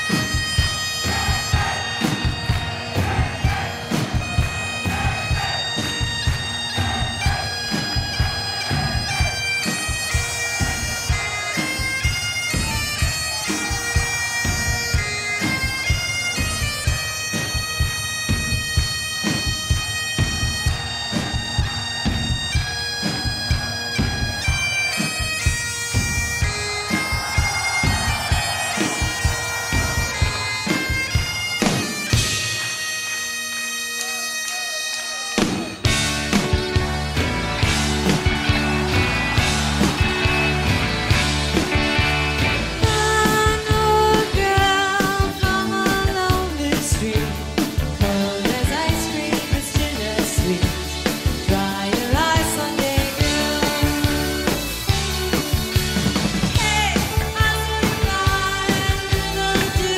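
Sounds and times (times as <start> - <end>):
drum beat: 0.0 - 32.7, 35.4 - 59.9
bagpipes playing over drone: 0.0 - 46.4, 47.3 - 59.9.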